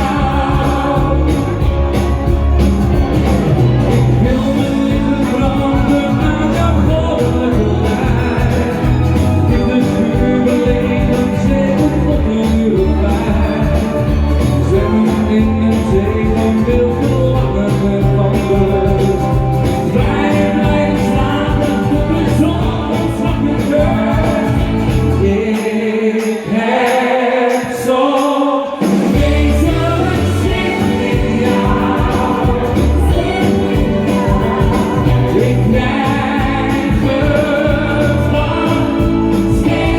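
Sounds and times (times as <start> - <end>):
up-tempo pop music with vocals: 0.0 - 39.9.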